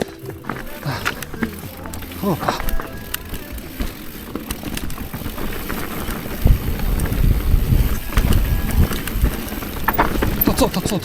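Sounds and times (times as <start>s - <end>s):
bike clicks and rattles: 0.0s - 11.0s
wind buffeting microphone: 0.0s - 11.0s.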